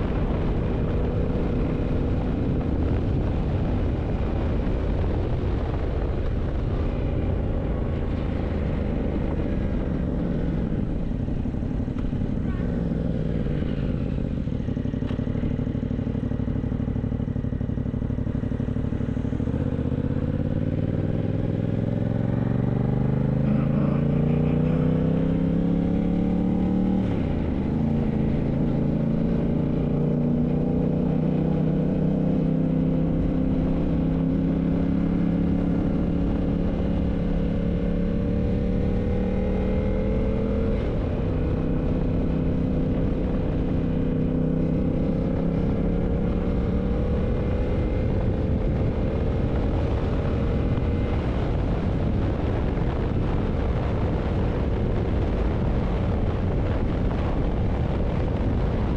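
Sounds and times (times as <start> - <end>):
low wind rush: 0.0 - 58.9
motorcycle engine accelerating: 0.0 - 58.9.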